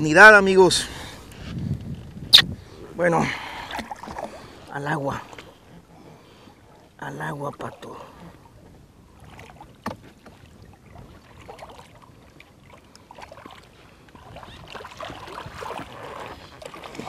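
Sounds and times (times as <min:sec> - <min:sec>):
water splashing against boat: 0:00.0 - 0:17.0.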